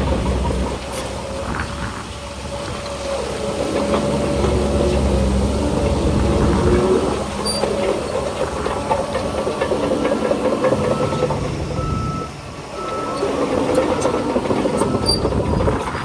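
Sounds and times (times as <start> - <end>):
bulldozer diesel engine under load: 0.0 - 16.0
steel tracks clanking and squeaking: 0.0 - 16.0.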